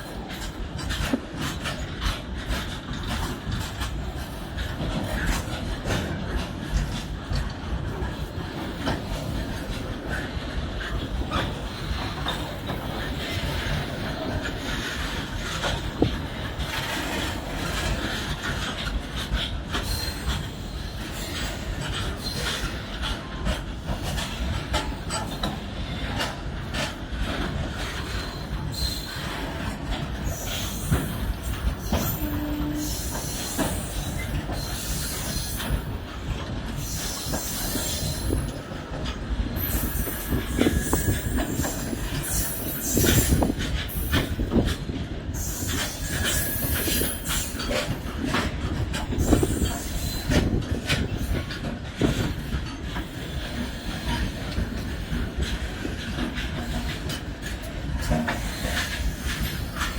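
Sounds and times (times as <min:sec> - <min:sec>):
freight wagons rumbling on rails: 0:00.0 - 0:59.9.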